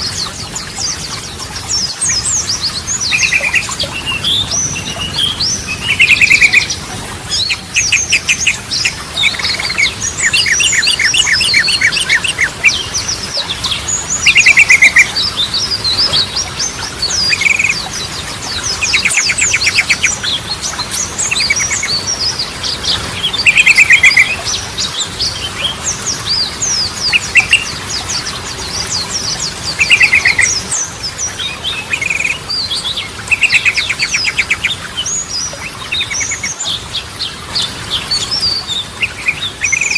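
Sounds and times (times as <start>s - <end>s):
bird trills and chirps: 0.0s - 39.9s
bulbul singing whistled phrases: 0.6s - 13.2s, 13.8s - 17.9s, 18.5s - 28.3s, 29.0s - 36.8s, 38.0s - 39.9s.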